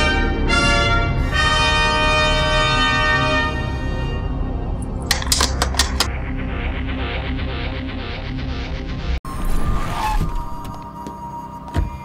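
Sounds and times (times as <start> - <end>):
film score with rhythmic pulse: 0.0 - 12.0.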